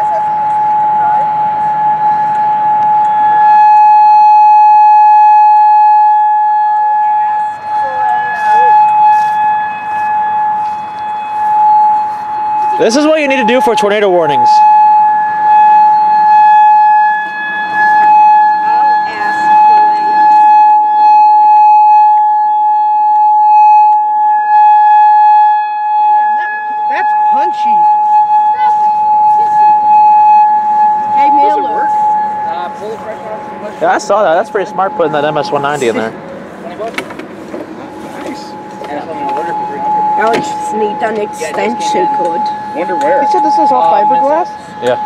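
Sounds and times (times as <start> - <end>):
warning siren steady tone: 0.0 - 45.0.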